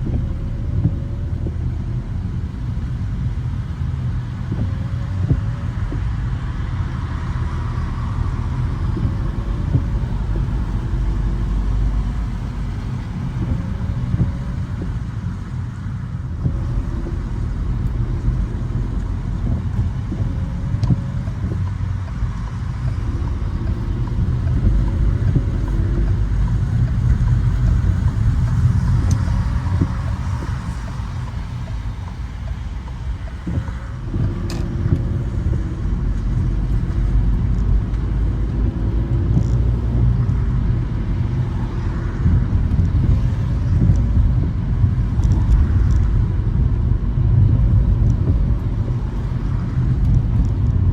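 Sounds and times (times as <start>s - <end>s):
road and engine rumble: 0.0s - 50.9s.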